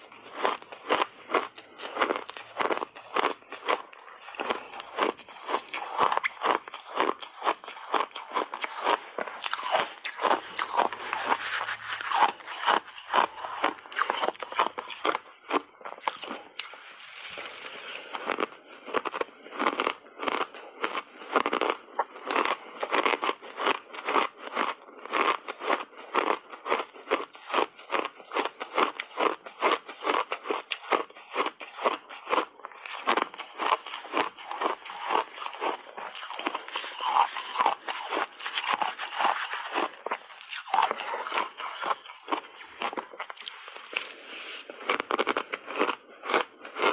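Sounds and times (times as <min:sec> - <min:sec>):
chewing crunchy shaved ice: 0:00.0 - 0:46.9.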